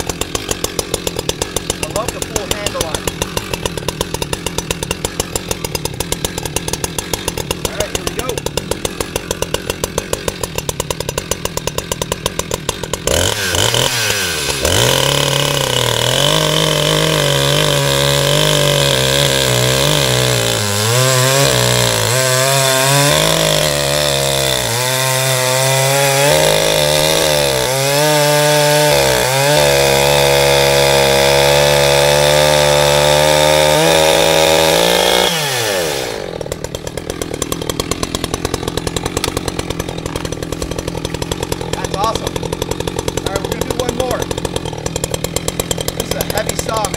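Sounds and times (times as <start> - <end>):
chainsaw revving and cutting: 0.0 - 46.9.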